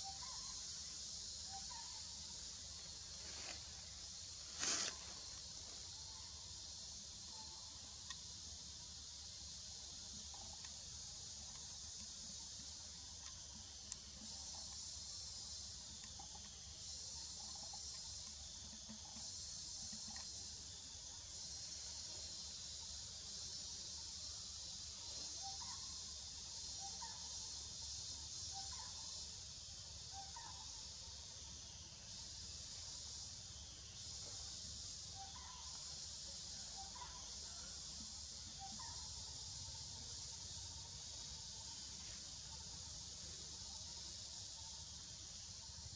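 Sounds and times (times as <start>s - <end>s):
insects buzzing: 0.0s - 45.9s.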